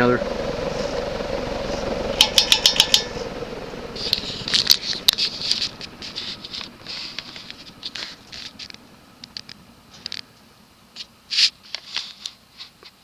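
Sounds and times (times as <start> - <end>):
ceiling fan motor hum: 0.0 - 12.9.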